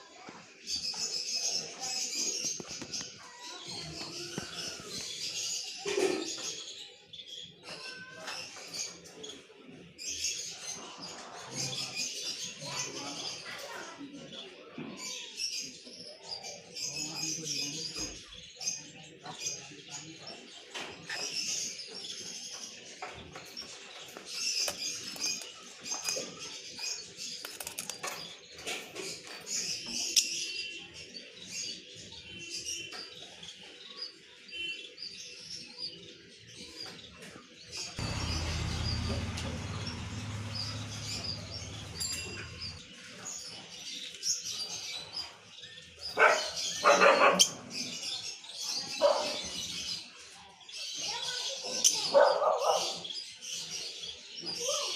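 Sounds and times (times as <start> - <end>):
harsh bird calls: 0.0 - 14.3, 15.0 - 33.4, 34.0 - 54.9
lovebirds chirping and chattering: 0.0 - 54.9.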